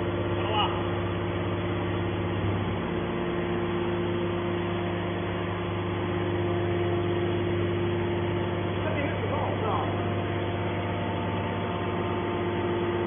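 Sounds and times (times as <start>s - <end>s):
hydraulic power unit humming: 0.0s - 13.0s.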